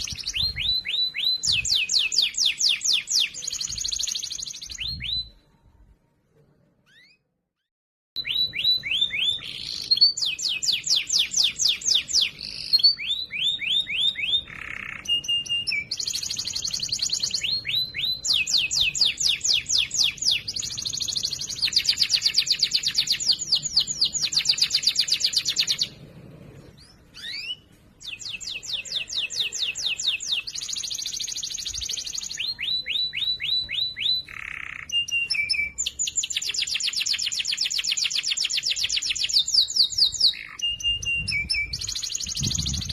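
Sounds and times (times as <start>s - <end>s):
canary singing trills: 0.0s - 5.5s, 8.2s - 42.9s.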